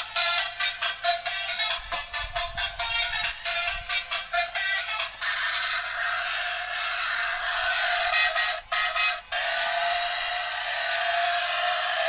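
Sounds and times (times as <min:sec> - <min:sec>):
electronic toy music and effects: 0:00.0 - 0:12.0
toy mixer truck running: 0:00.0 - 0:12.0.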